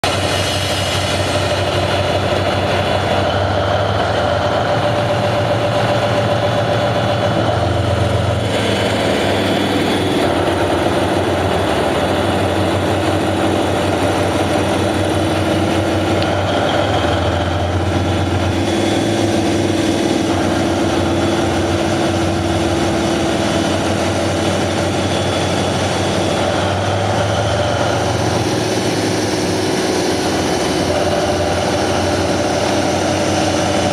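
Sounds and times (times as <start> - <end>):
diesel locomotive engine humming: 0.0 - 33.9.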